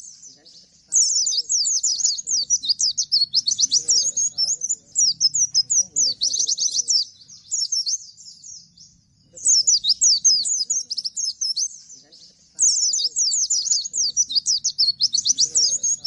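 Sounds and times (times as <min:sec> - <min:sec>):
bird singing rapid falling notes: 0:00.0 - 0:16.0.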